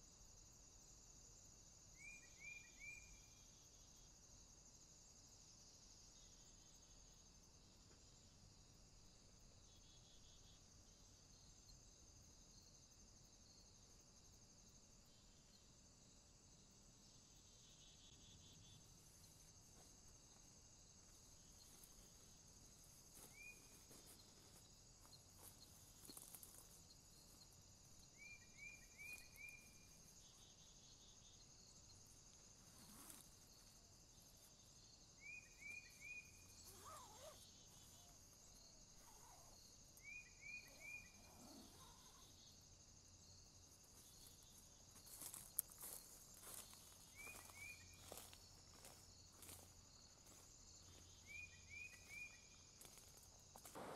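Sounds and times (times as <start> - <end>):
crickets and insects buzzing: 0.0 - 53.9.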